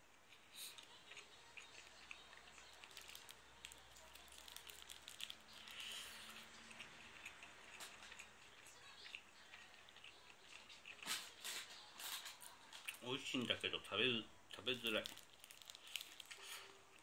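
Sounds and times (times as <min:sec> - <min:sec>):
faint chewing: 0:00.1 - 0:13.7, 0:14.5 - 0:17.0.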